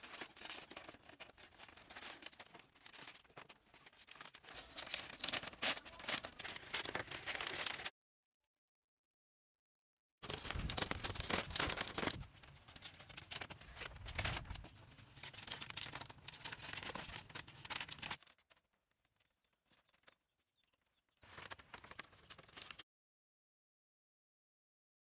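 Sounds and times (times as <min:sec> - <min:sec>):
scraping and crackling with clicks: 0:00.0 - 0:07.9, 0:10.3 - 0:22.8.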